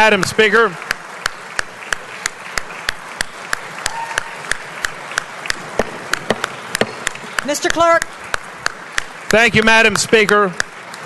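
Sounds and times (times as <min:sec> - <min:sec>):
crowd clapping: 0:00.0 - 0:11.0
near person clapping evenly: 0:00.0 - 0:11.0.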